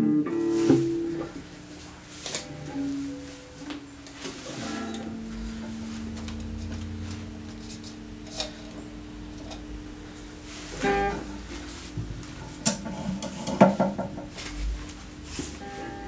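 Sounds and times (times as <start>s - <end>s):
electric guitar chord ringing: 0.0s - 16.0s
guitar chord strummed: 0.0s - 16.0s.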